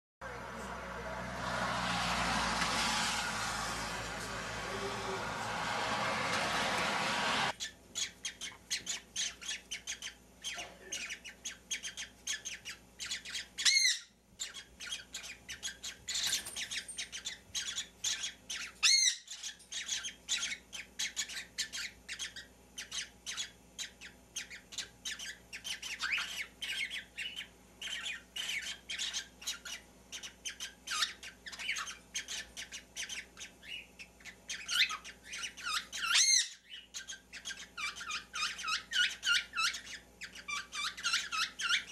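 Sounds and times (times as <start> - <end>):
baby birds chirping and squawking: 2.8 - 41.9.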